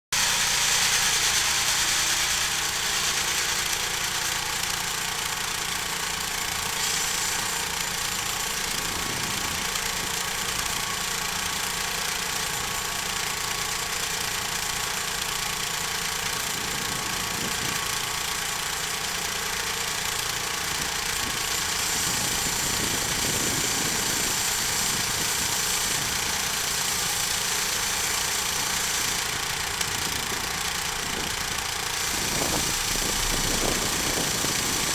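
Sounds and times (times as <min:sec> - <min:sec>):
sawmill engine running: 0:00.1 - 0:34.9
saw blade cutting log: 0:00.2 - 0:15.4, 0:18.8 - 0:34.9.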